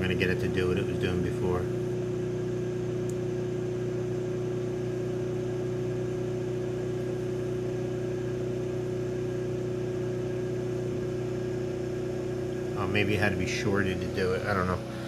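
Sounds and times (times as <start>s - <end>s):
generator hum: 0.0s - 15.0s.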